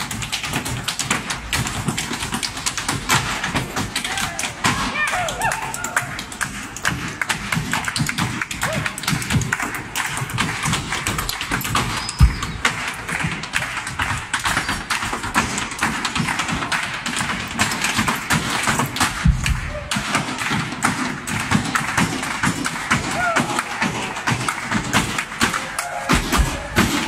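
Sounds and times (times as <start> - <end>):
hard shoes tapping on wooden stage: 0.0 - 27.0
heavy stomps: 0.0 - 27.0.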